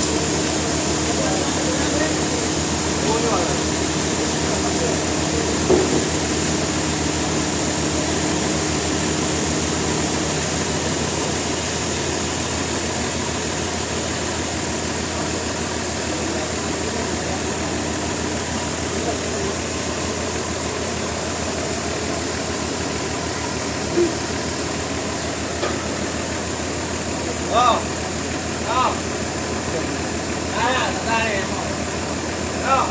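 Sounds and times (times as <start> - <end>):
machinery humming: 0.0 - 32.9.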